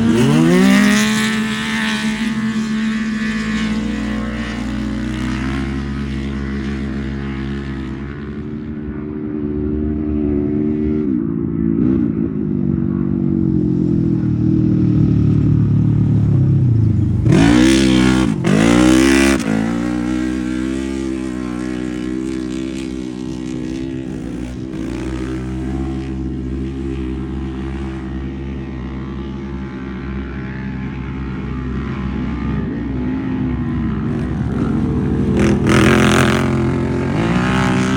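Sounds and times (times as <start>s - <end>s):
engine revving: 0.0s - 12.3s, 14.8s - 29.1s, 30.0s - 37.9s
race engine running hard: 0.0s - 37.9s.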